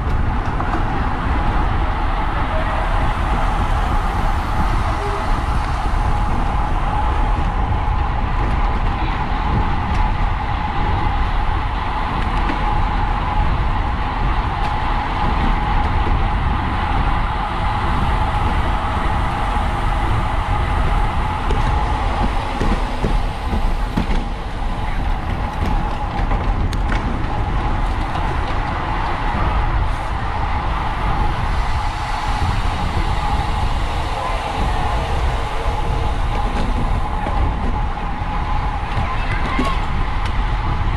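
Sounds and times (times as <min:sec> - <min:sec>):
constant whir: 0:00.0 - 0:40.9
wind rushing over microphone: 0:00.0 - 0:40.9.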